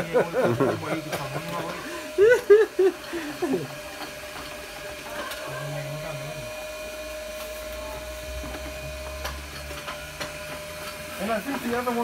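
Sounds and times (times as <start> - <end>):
sewing machine motor whining: 0.0 - 12.0.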